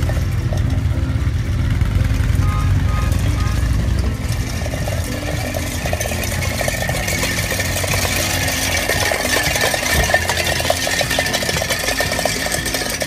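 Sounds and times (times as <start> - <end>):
tin cans rattling over pavement: 0.0 - 13.0.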